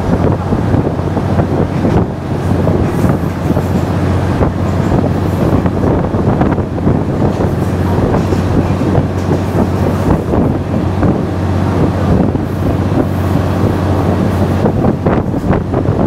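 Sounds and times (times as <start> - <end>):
train rumble: 0.0 - 16.0
wheels rattling on rails: 0.0 - 16.0
wind buffeting microphone: 0.0 - 16.0.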